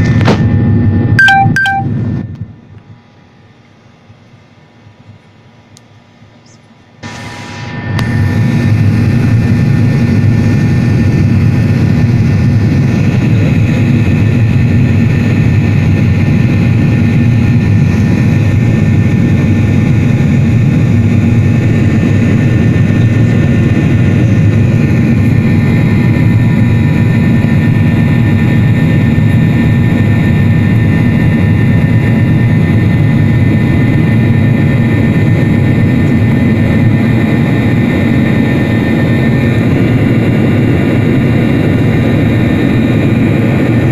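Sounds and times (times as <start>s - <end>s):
faint engine whines: 0.0s - 43.9s
jet engine rumble in cabin: 0.0s - 43.9s.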